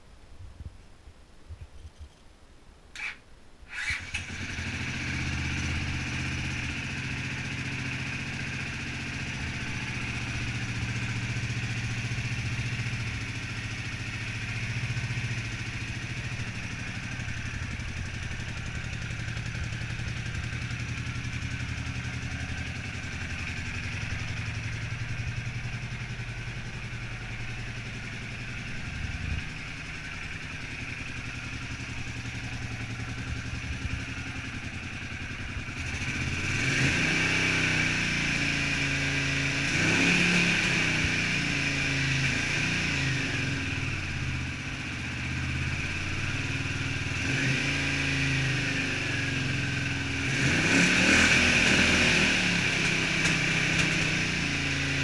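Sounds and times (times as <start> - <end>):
motorcycle engine idling and revving: 3.0 - 55.0.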